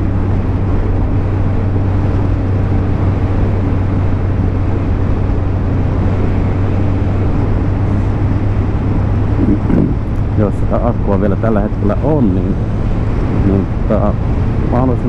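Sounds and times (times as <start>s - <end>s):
motorcycle engine cruising: 0.0s - 15.0s
riding noise: 0.0s - 15.0s.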